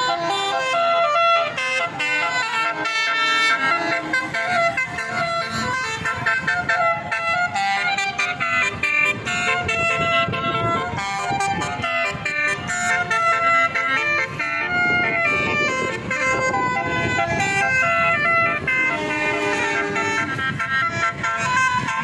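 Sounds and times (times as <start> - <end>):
bus musical horn playing a tune: 0.0 - 22.0
bus noise: 0.0 - 22.0.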